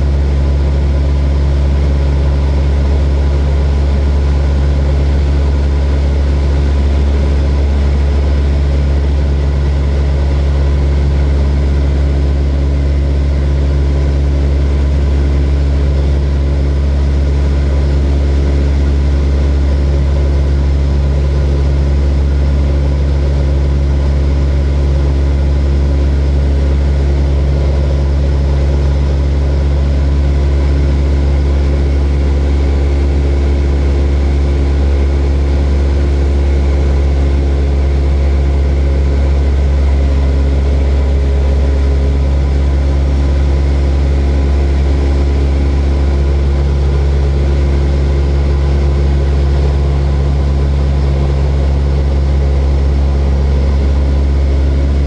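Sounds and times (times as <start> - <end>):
propeller airplane engine droning: 0.0 - 55.0.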